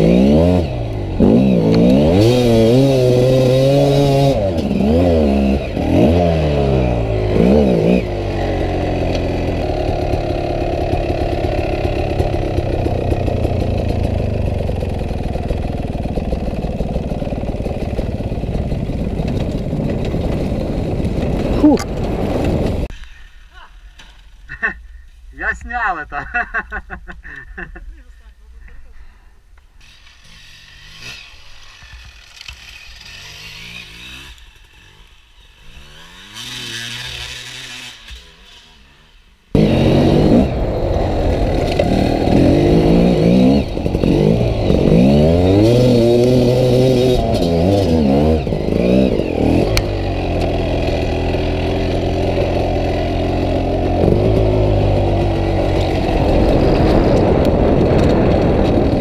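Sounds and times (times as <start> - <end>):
two-stroke dirt bike engine revving: 0.0 - 22.9, 29.8 - 59.0.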